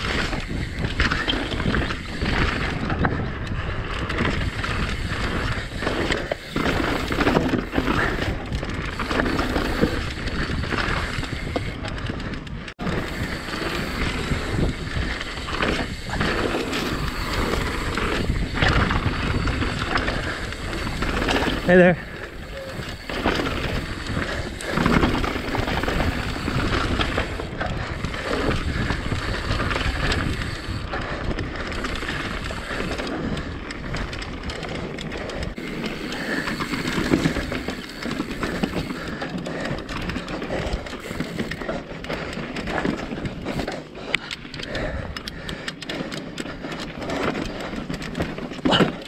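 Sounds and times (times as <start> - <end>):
bike tyres on rocky trail: 0.0 - 49.0.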